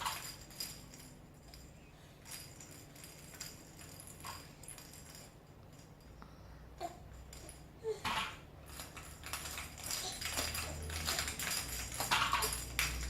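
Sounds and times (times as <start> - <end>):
toys clinking and rattling: 0.0 - 6.2, 6.8 - 13.0.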